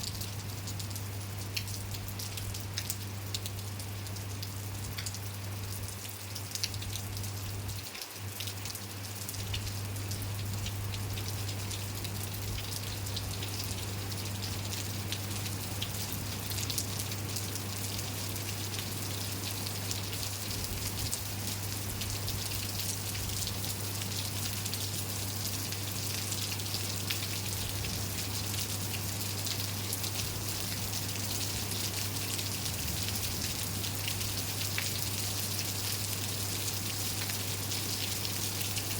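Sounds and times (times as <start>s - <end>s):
raindrops tapping on surfaces: 0.0s - 25.0s, 25.6s - 38.9s
constant low hum: 0.0s - 37.9s
steady rain falling: 0.0s - 38.9s.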